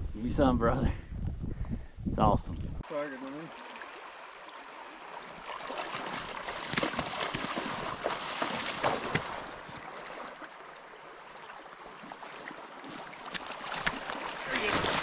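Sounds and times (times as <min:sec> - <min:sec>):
flowing creek water: 0:02.8 - 0:15.0
water splashing: 0:02.8 - 0:15.0.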